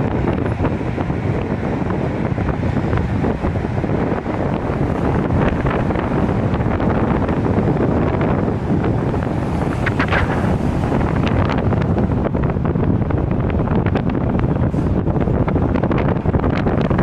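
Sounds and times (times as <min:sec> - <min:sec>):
road traffic rushing: 0:00.0 - 0:17.0
wind buffeting microphone: 0:00.0 - 0:17.0.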